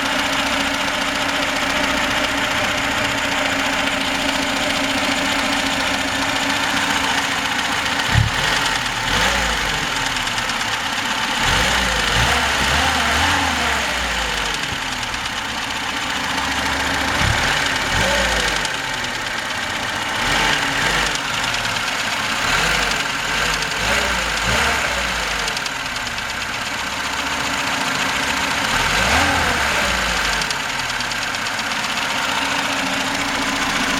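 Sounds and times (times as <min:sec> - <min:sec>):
car engine idling and revving: 0:00.0 - 0:33.9
engine knocking: 0:00.0 - 0:33.9.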